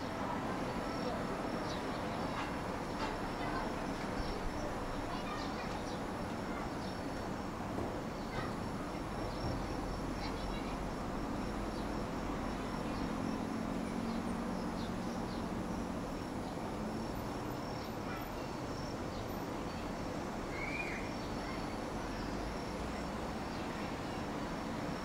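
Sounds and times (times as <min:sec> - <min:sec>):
insects chirping faintly: 0:00.0 - 0:25.0
town background noise: 0:00.0 - 0:25.0.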